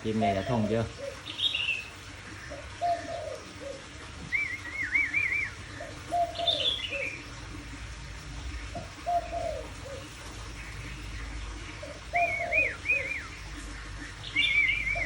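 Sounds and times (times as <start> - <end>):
dove cooing: 0.0 - 15.0
songbird warbling: 0.0 - 15.0.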